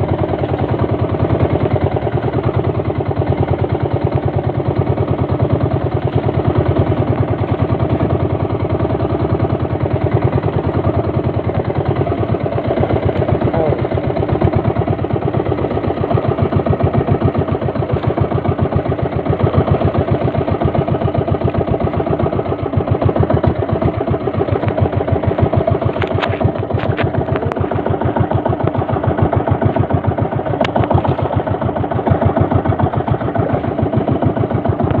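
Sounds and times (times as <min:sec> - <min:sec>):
small boat engine puttering: 0:00.0 - 0:35.0.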